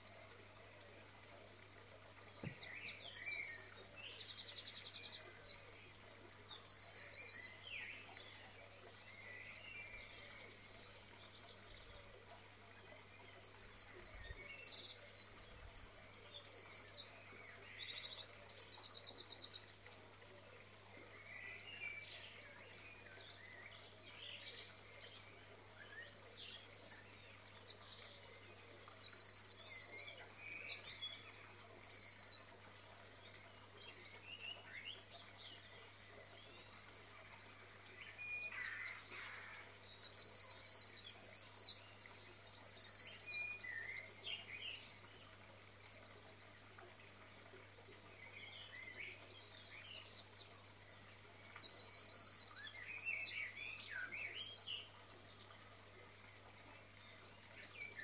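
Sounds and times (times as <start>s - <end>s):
small birds twittering: 0.0s - 58.0s.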